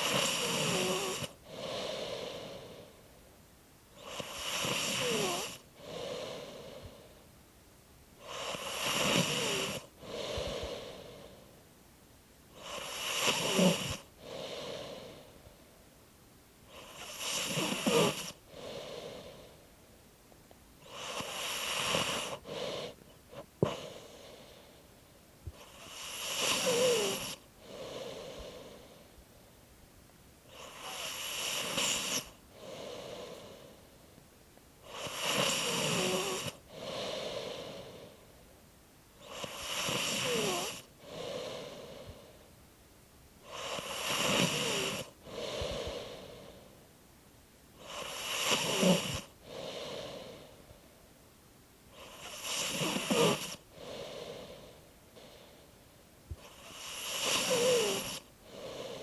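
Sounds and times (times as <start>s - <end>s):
slow rhythmic snoring: 0.0s - 3.2s, 3.9s - 7.3s, 8.2s - 11.6s, 12.5s - 15.6s, 16.6s - 19.7s, 20.8s - 29.2s, 30.4s - 34.2s, 34.8s - 38.5s, 39.1s - 42.6s, 43.4s - 46.9s, 47.7s - 50.9s, 51.9s - 59.0s.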